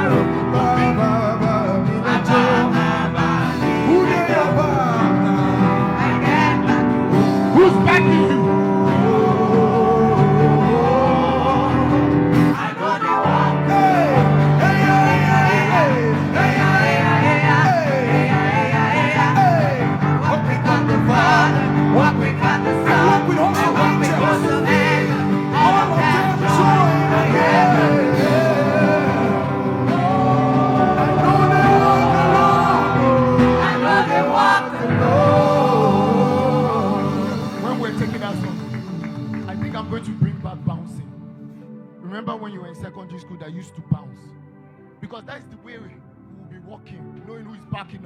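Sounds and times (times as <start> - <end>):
bass: 0.0 - 12.6, 13.4 - 41.1
people singing: 0.0 - 40.2
keyboard chords: 0.0 - 48.0.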